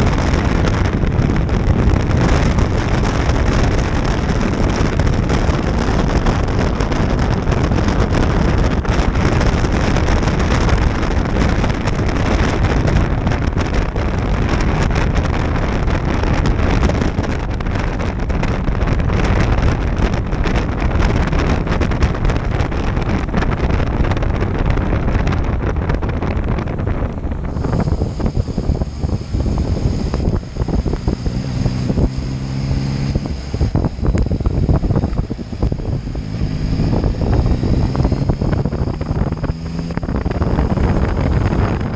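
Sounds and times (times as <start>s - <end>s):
motorcycle engine: 0.0s - 41.9s
road noise: 0.0s - 41.9s
wind rushing over microphone: 0.0s - 41.9s.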